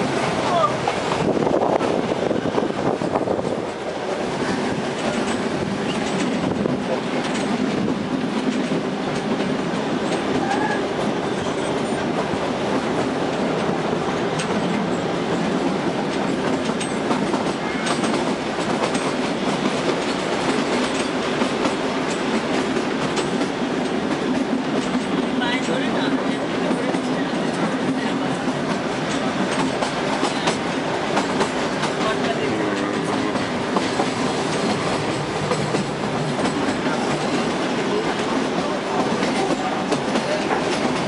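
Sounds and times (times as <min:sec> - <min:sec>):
train running gear rumble: 0:00.0 - 0:41.0
wheels clicking over rail joints: 0:00.2 - 0:41.0.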